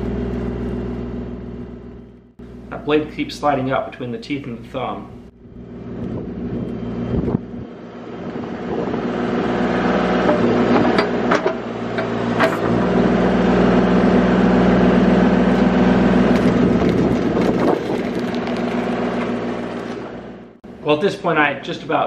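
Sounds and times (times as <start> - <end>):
excavator diesel engine: 0.0 - 4.0, 4.6 - 21.2.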